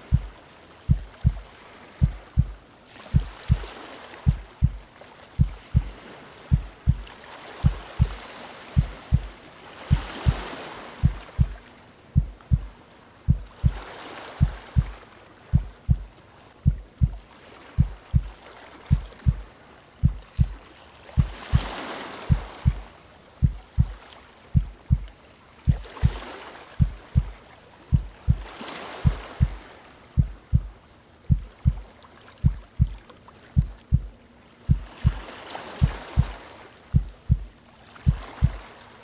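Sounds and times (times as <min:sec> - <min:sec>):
heartbeat thumps: 0:00.0 - 0:08.2, 0:08.8 - 0:11.6, 0:12.2 - 0:12.7, 0:13.3 - 0:17.2, 0:17.8 - 0:18.3, 0:18.9 - 0:20.6, 0:21.2 - 0:25.1, 0:25.7 - 0:29.6, 0:30.2 - 0:33.0, 0:33.6 - 0:38.6
ocean waves washing: 0:00.0 - 0:39.0.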